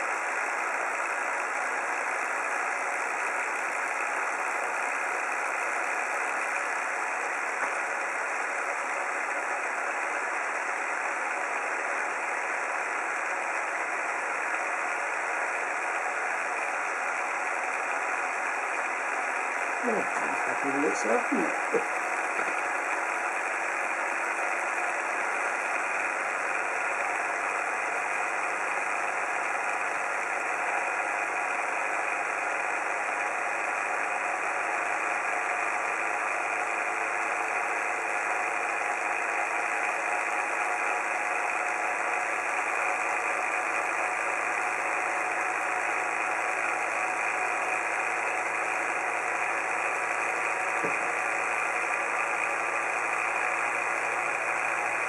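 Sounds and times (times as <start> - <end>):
small engine running smoothly: 0.0 - 55.0.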